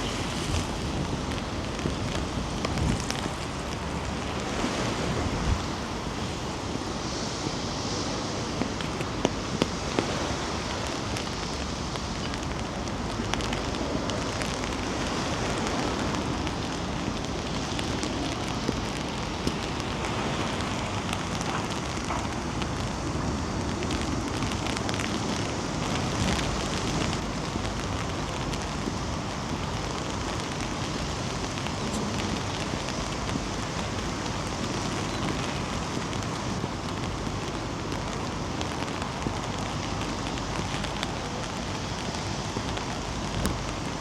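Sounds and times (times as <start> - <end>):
raindrops ticking: 0.0 - 44.0
wind rumbling on microphone: 0.0 - 44.0.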